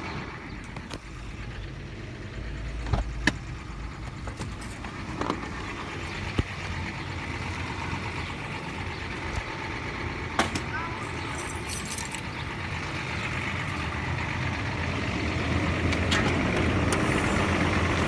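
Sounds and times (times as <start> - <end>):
petrol engine rattling: 0.0 - 18.0.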